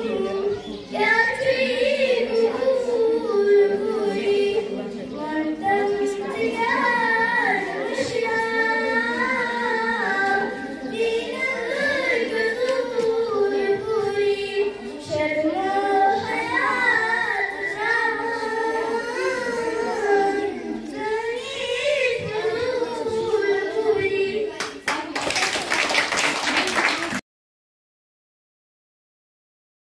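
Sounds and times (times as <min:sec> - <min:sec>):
girl singing: 0:00.0 - 0:24.8.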